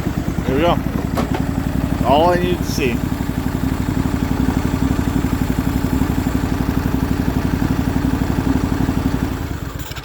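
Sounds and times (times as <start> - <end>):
lawn tractor engine idling: 0.0 - 10.0.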